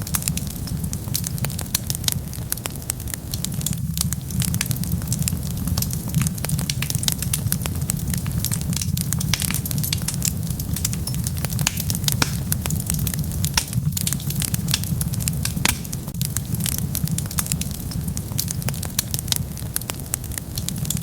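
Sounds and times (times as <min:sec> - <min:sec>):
fire crackling and popping: 0:00.0 - 0:21.0
wood fire rumbling: 0:00.0 - 0:21.0.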